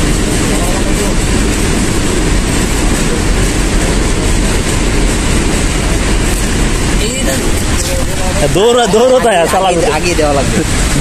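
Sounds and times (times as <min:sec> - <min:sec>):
loud rushing rumbling noise: 0:00.0 - 0:11.0.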